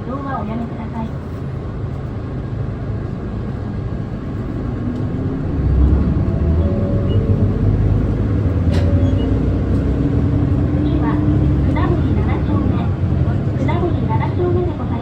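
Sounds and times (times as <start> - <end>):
bus diesel engine accelerating: 0.0 - 15.0.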